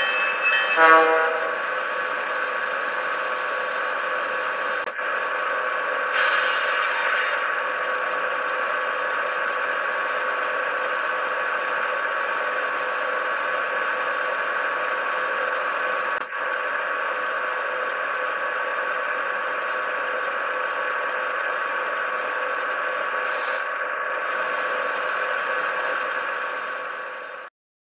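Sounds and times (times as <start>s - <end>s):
model locomotive idling hum: 0.0s - 27.5s.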